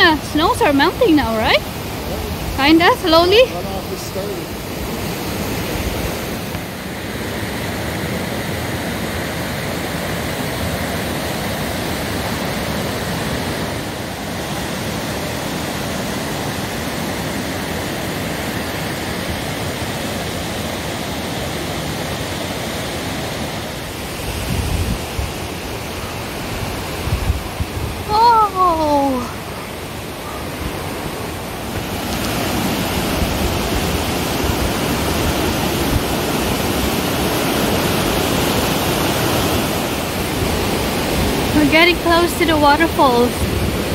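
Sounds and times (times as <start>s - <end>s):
creek rushing over rocks: 0.0s - 43.9s.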